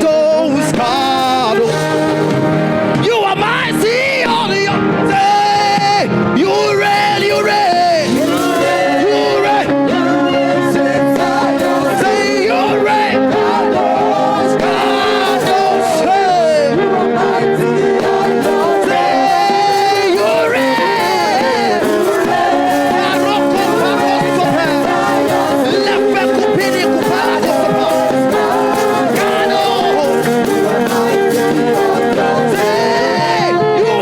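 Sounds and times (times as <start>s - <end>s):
choir singing: 0.0s - 5.7s, 6.3s - 34.0s
gospel band music: 0.0s - 34.0s.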